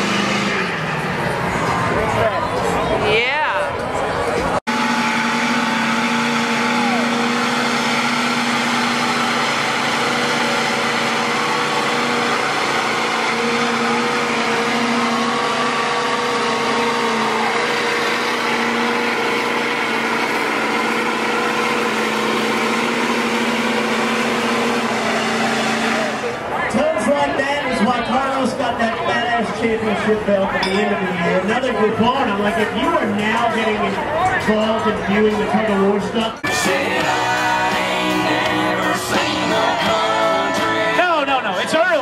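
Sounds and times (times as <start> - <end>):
tires spinning: 0.0 - 3.1, 3.8 - 42.0
truck engines at high revs: 0.0 - 3.1, 3.7 - 42.0.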